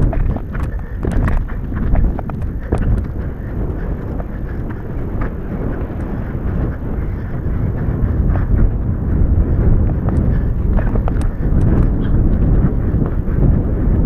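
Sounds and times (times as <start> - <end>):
hoofbeats on grass: 0.0 - 14.0
wind buffeting microphone: 0.0 - 14.0.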